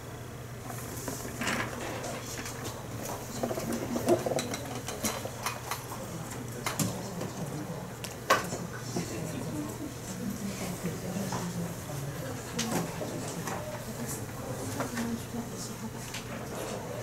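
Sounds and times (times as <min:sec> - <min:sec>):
faint murmuring voices: 0:01.8 - 0:17.0.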